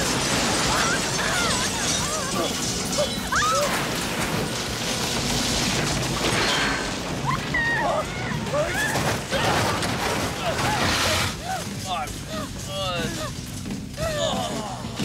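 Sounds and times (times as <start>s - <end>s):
smashing and crashing: 0.0s - 15.0s.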